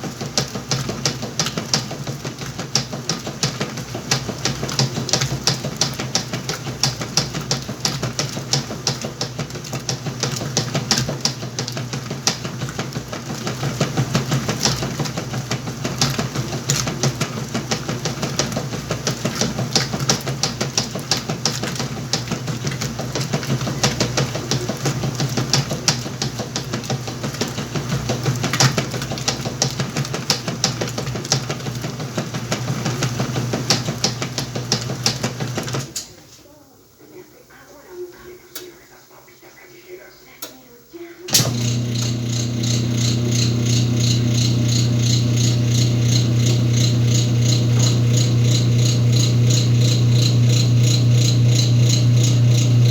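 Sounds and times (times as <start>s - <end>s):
washing machine clicking and knocking: 0.0s - 36.1s, 41.3s - 52.9s
washing machine motor hum: 0.0s - 38.8s, 40.3s - 52.9s.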